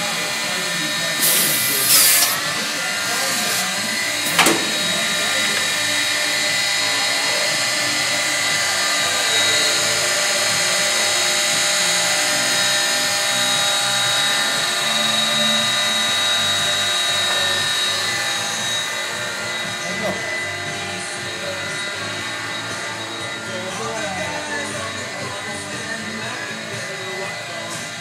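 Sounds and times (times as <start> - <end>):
cut-off saw motor whining: 0.0 - 28.0.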